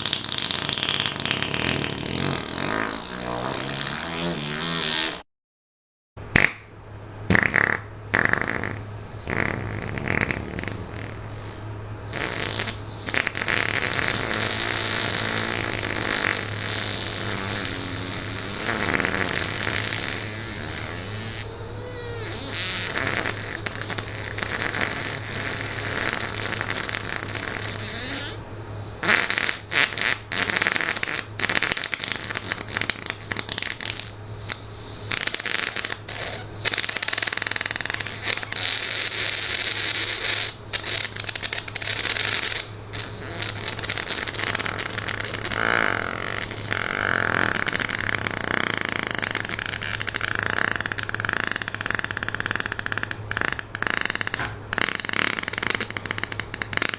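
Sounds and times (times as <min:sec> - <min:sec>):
fart sound effects: 0:00.0 - 0:05.3, 0:06.3 - 0:06.7, 0:07.3 - 0:56.9.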